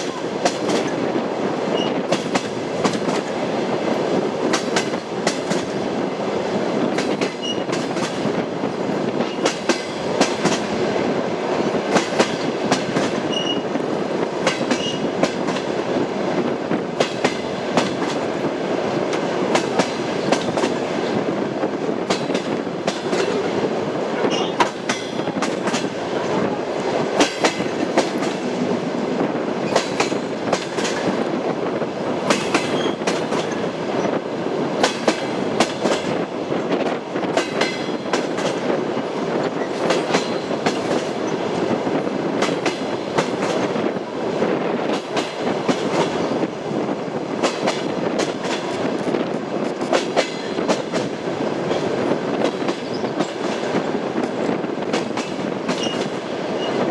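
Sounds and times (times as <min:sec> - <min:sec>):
train wheels clattering over rail joints: 0:00.0 - 0:01.0, 0:01.7 - 0:05.8, 0:06.8 - 0:11.0, 0:11.7 - 0:23.6, 0:24.3 - 0:26.0, 0:26.8 - 0:28.8, 0:29.6 - 0:31.3, 0:32.1 - 0:34.2, 0:34.8 - 0:44.0, 0:44.8 - 0:46.6, 0:47.4 - 0:56.9.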